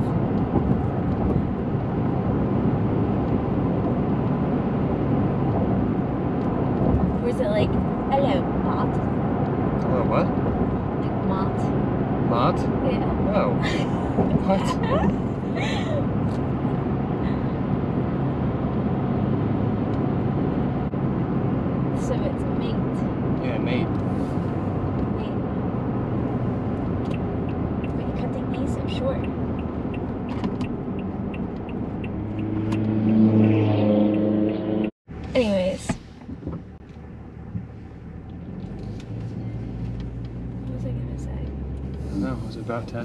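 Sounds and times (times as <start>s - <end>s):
car interior road and engine rumble: 0.0s - 43.0s.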